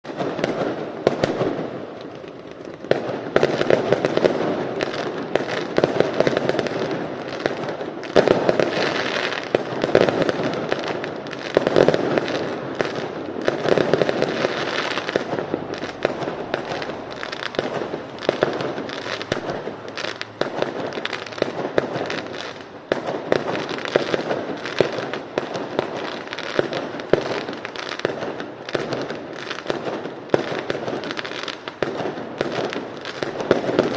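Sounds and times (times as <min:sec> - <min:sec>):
fireworks crackling and banging: 0:00.0 - 0:33.9.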